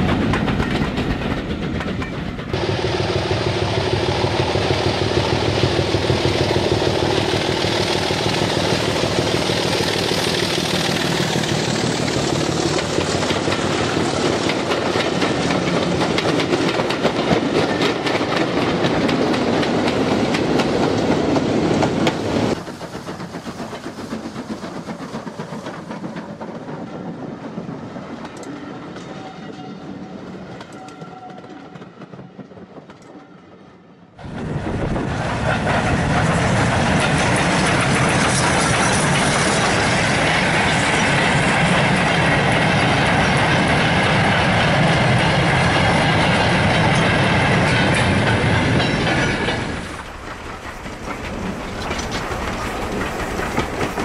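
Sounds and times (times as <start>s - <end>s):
model train hum: 0.0s - 28.5s, 34.2s - 54.0s
model train wheels clicking: 3.6s - 28.6s, 35.3s - 54.0s.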